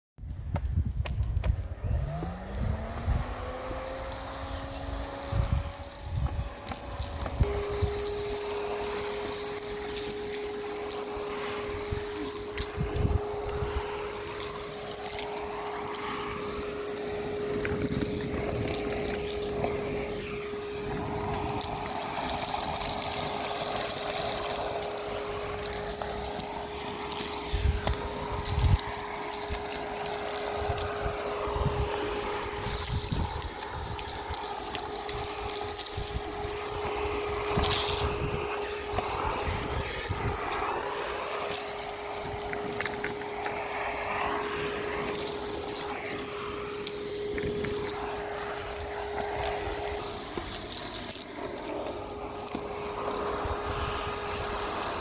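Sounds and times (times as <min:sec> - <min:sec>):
grit crackling in vacuum: 0:01.5 - 0:55.0
vacuum cleaner running: 0:01.6 - 0:55.0.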